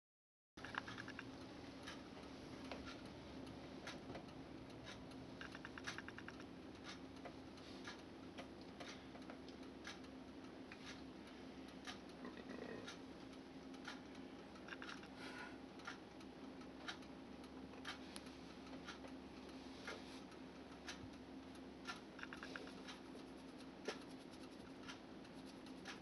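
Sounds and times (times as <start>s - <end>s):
faint irregular clicks: 0.6s - 26.0s
low steady hum: 0.6s - 26.0s.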